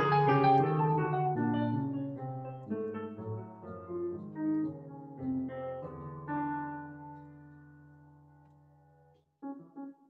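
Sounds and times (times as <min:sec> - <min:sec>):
improvised piano music: 0:00.0 - 0:10.0.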